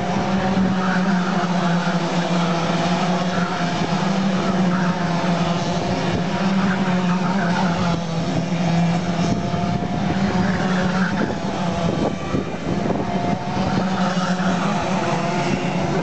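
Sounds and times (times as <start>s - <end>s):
racing kart engines: 0.0s - 16.0s.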